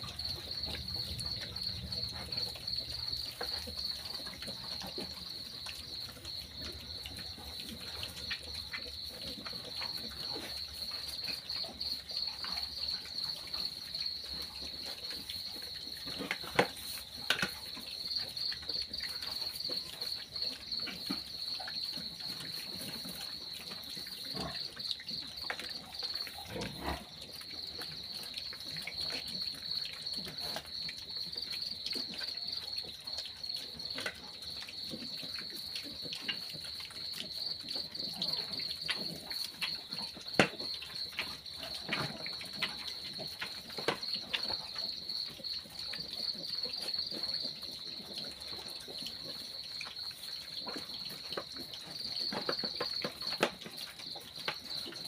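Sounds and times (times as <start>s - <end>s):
crickets trilling: 0.0s - 55.0s
piglets eating from bowl: 0.0s - 55.0s.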